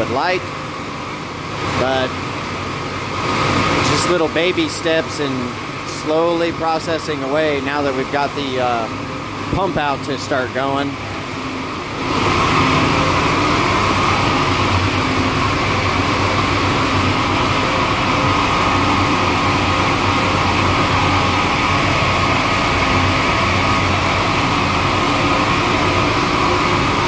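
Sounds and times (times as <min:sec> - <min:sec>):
machinery drone with whine: 0:00.0 - 0:27.0.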